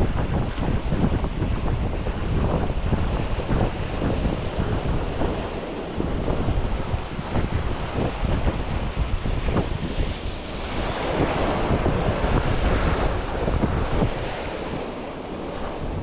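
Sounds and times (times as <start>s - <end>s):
sea surf washing: 0.0s - 16.0s
wind buffeting microphone: 0.0s - 16.0s.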